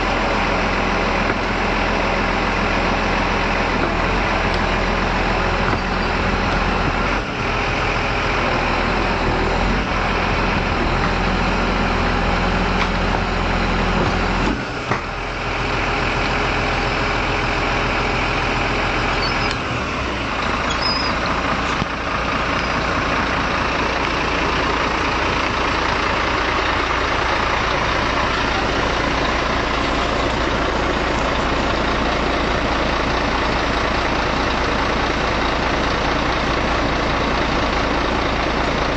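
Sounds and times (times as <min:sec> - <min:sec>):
heavy engine running: 0:00.0 - 0:38.9.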